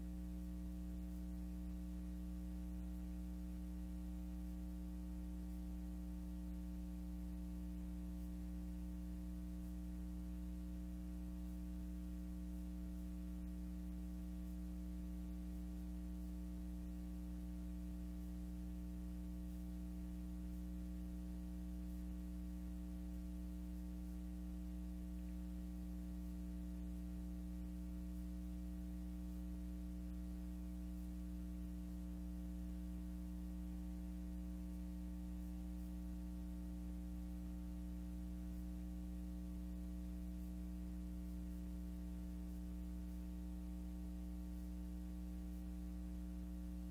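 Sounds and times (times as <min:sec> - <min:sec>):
faint hiss: 0:00.0 - 0:46.9
low electrical mains hum: 0:00.0 - 0:46.9.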